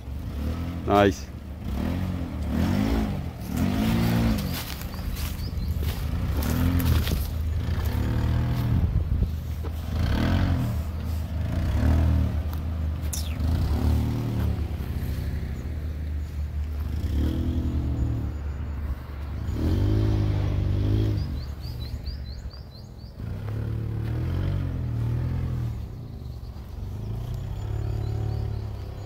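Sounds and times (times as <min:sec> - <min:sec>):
car engine revving up and down: 0:00.0 - 0:29.0.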